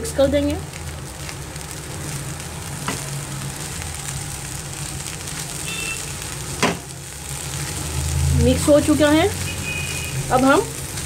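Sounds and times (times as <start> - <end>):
rice sizzling in a pan: 0.0 - 11.0.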